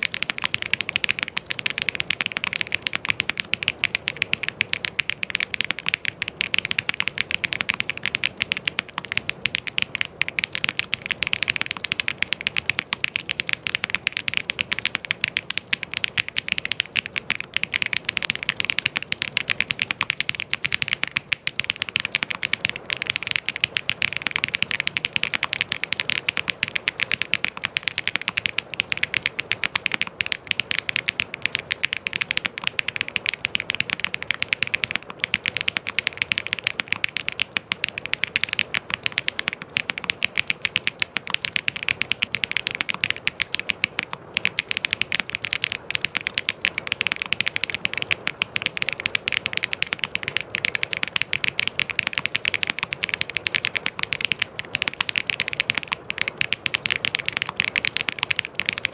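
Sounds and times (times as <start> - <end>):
mechanical keyboard typing: 0.0 - 58.9.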